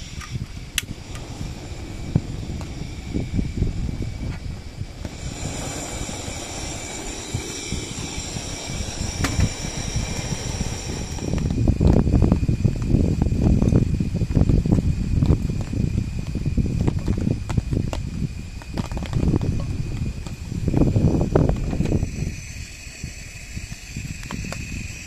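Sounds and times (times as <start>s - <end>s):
gas burner hissing: 0.0s - 25.0s
wind rumble: 0.0s - 25.0s.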